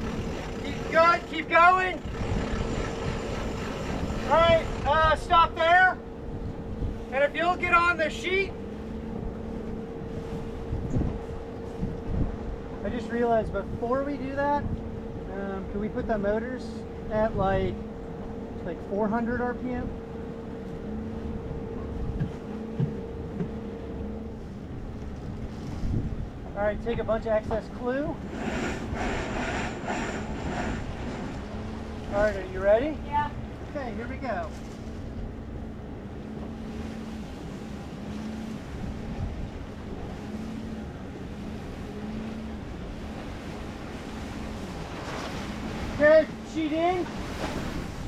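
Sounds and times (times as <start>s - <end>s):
boat engines rumbling: 0.0s - 48.0s
steady hum: 0.0s - 48.0s
water noise: 0.0s - 48.0s
wind on microphone: 0.0s - 48.0s.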